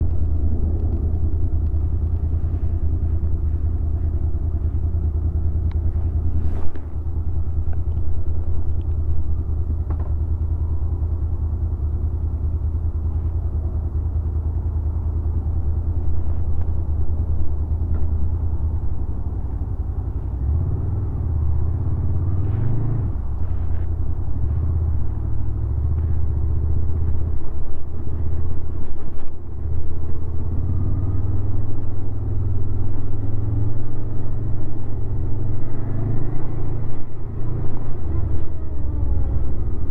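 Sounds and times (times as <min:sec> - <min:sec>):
motorcycle engine idling: 0:00.0 - 0:35.8.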